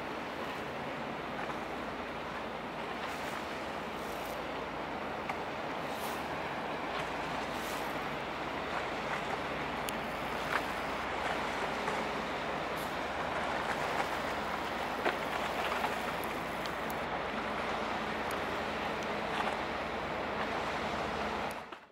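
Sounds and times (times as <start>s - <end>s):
steady rushing noise: 0.0s - 21.8s
faint low diesel engine hum: 0.0s - 21.9s.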